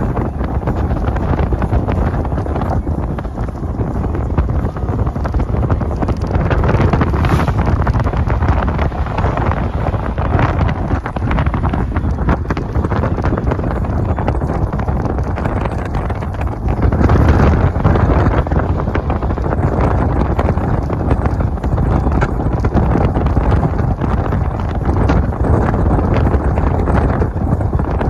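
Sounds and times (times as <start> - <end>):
road and engine rumble: 0.0 - 28.0
wind buffeting microphone: 0.0 - 28.0.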